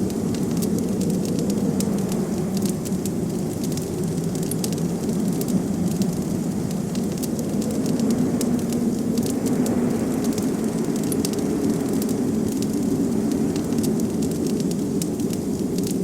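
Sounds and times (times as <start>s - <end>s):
low wind rumble: 0.0s - 16.0s
wood fire crackling and popping: 0.0s - 16.0s.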